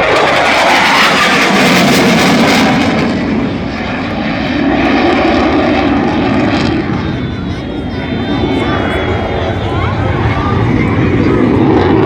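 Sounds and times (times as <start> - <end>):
military aircraft flying overhead: 0.0 - 12.0.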